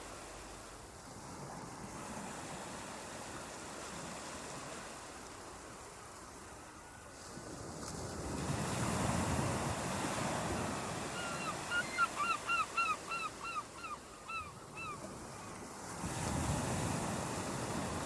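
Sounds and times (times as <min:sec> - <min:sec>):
waves washing onto beach: 0:00.0 - 0:13.8, 0:14.6 - 0:18.0.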